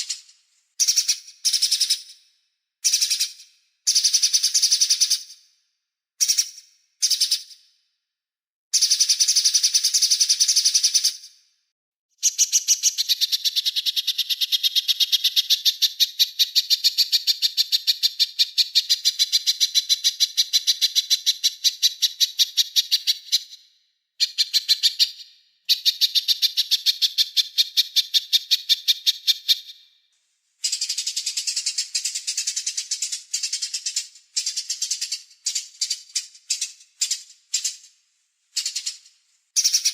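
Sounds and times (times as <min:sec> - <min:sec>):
small songbird singing: 0:00.0 - 0:05.5, 0:06.2 - 0:07.7, 0:08.7 - 0:11.4, 0:12.2 - 0:30.0, 0:30.6 - 0:39.9.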